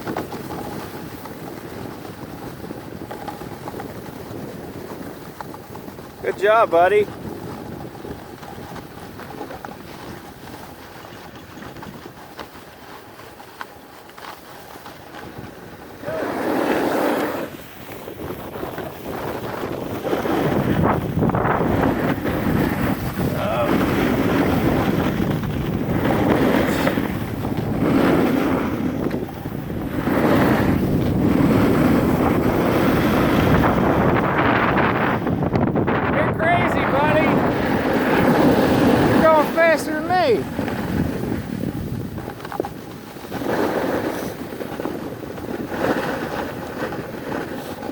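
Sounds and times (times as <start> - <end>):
snowboard sliding over snow: 0.0 - 47.9
wind buffeting microphone: 0.0 - 47.9.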